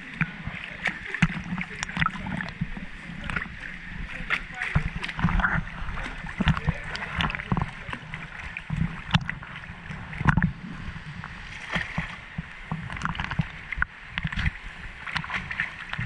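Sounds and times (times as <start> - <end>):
low rumble: 0.0 - 15.0
river water lapping and splashing: 0.0 - 16.0.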